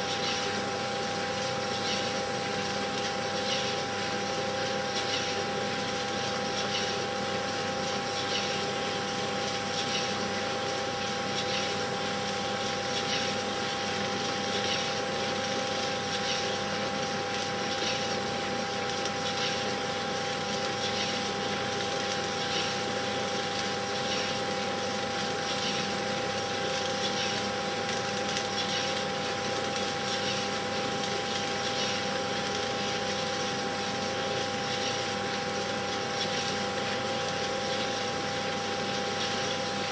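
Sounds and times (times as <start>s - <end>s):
film projector motor hum: 0.0s - 39.9s.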